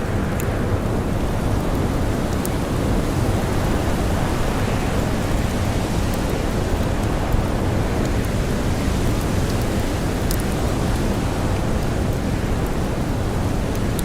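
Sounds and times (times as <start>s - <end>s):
blizzard wind rushing: 0.0s - 14.0s
campfire crackles: 0.0s - 14.0s.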